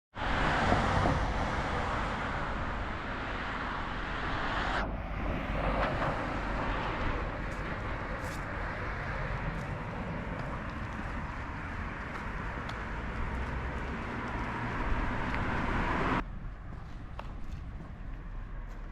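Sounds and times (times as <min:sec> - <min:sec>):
road traffic noise: 0:00.1 - 0:18.9.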